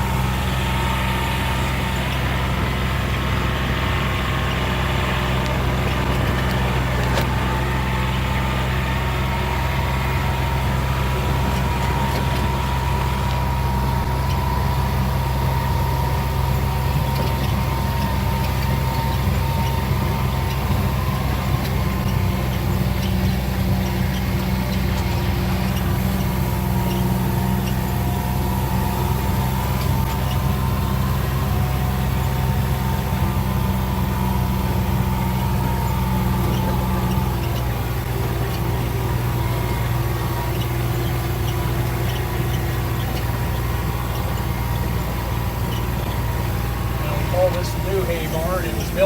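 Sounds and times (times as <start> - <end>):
road noise: 0.0 - 49.0
vehicle engine humming: 0.0 - 49.0.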